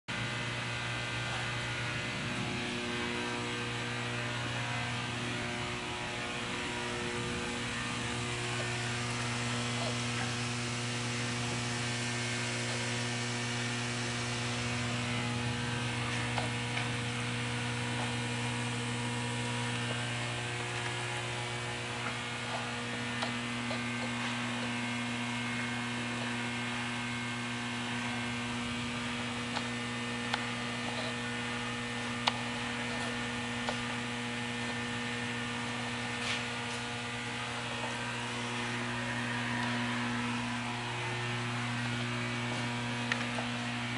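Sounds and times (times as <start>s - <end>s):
electrical mains hum: 0.1s - 43.9s
constant hiss: 1.2s - 43.9s.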